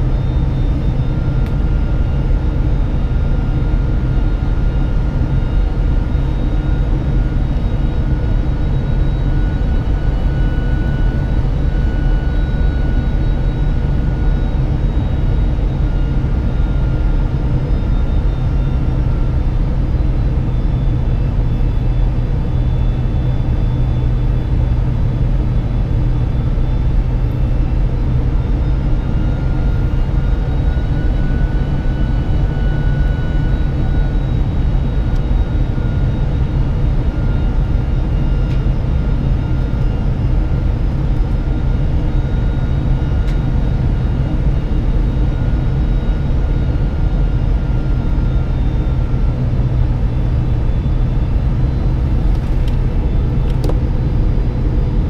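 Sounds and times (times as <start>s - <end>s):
aircraft engine and airflow rumble: 0.0s - 55.0s.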